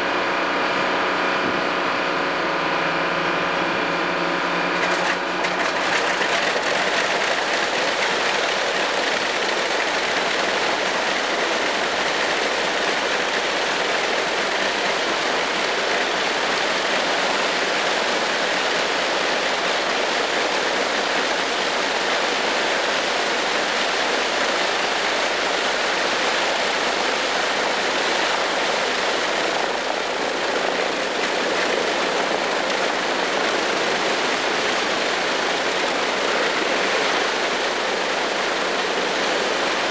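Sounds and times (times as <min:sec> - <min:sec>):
radial aircraft engines running: 0:00.0 - 0:39.9.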